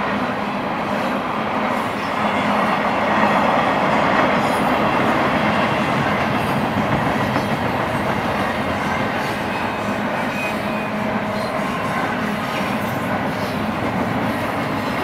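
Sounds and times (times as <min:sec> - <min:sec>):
steel train wheels rumbling on rail: 0:00.0 - 0:15.0.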